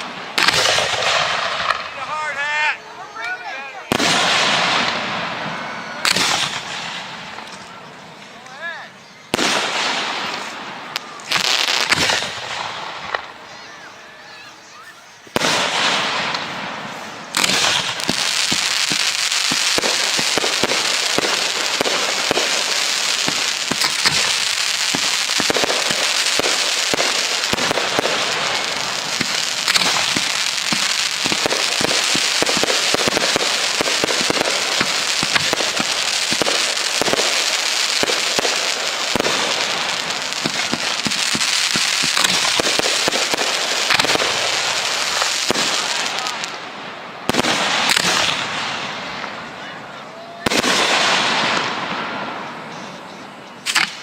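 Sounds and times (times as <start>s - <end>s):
firework bursts: 0.0s - 54.0s
firework crackling: 0.0s - 54.0s.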